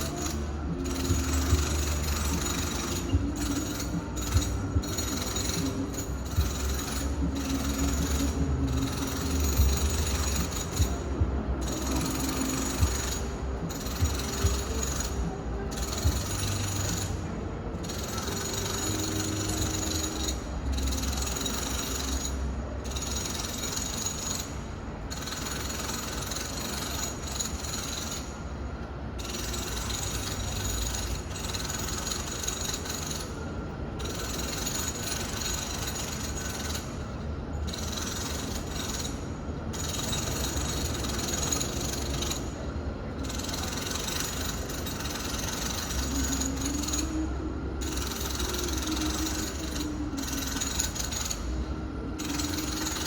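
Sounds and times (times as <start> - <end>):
muffled renovation grinding: 0.0 - 53.0.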